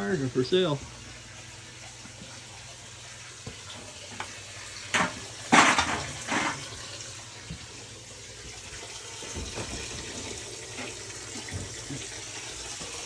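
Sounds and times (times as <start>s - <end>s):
water pouring from pump outflow: 1.8s - 13.0s.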